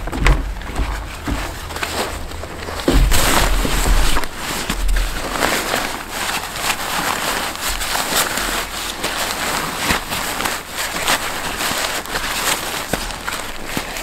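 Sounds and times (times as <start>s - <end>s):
tent fabric rustling: 0.0s - 14.0s.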